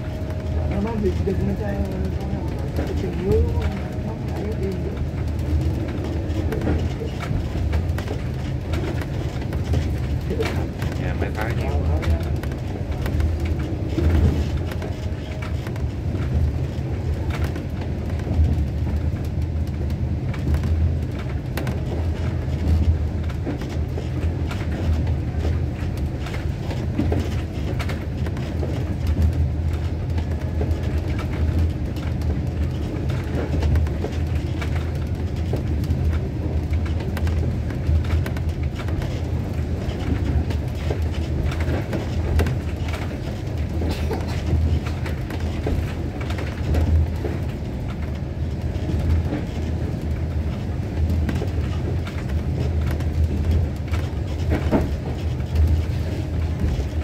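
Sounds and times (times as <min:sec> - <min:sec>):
train rumble from on board: 0:00.0 - 0:57.0.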